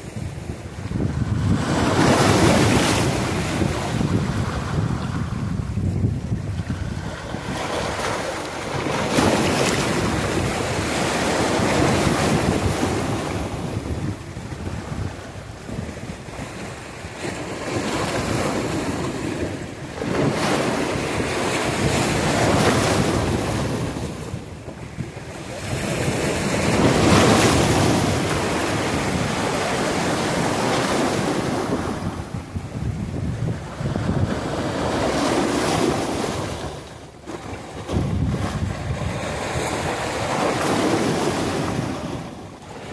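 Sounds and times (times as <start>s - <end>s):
ocean waves breaking: 0.0s - 42.9s.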